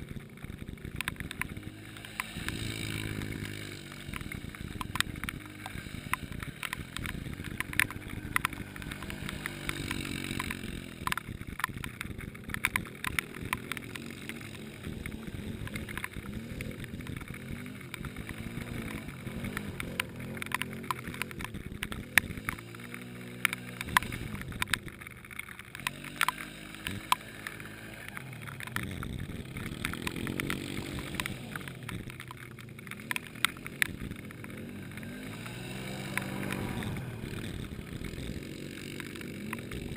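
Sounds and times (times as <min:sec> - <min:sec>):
atv engines revving in mud: 0:00.0 - 0:39.9
sharp ticks: 0:00.0 - 0:39.9.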